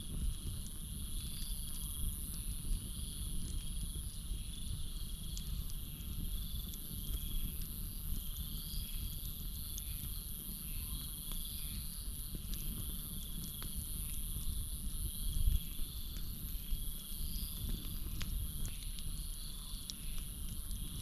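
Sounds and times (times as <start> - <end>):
campfire crackling: 0.0 - 21.0
crickets chirping: 0.1 - 21.0.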